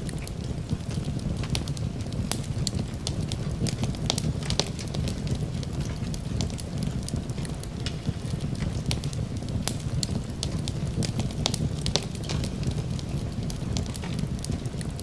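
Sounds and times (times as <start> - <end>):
fireplace fire crackling: 0.0 - 15.0
pops and snaps of burning wood: 0.0 - 15.0
steady low rumble: 0.0 - 15.0.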